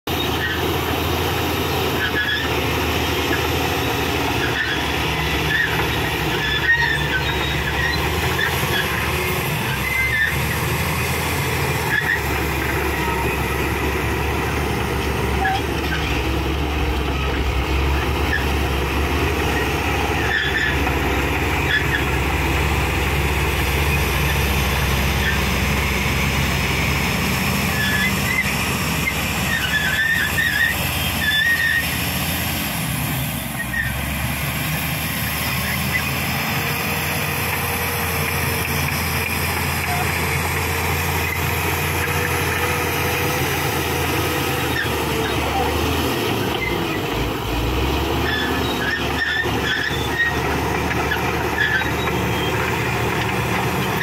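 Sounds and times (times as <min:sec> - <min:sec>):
bulldozer diesel engine under load: 0:00.0 - 0:54.0
steel tracks squeaking and clanking: 0:00.1 - 0:54.0.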